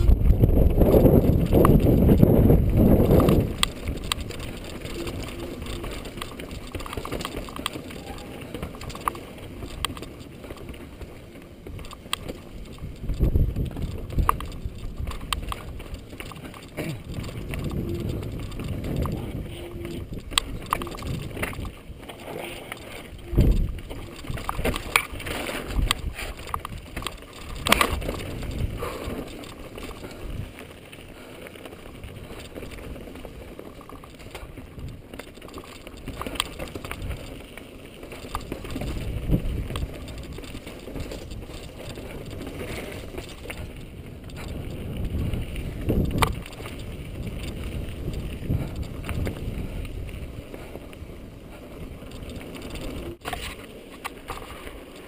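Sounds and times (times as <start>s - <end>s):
bike knocking on rocks: 0.0s - 30.7s, 31.8s - 50.1s
bike tyres rolling over dirt: 0.0s - 55.0s.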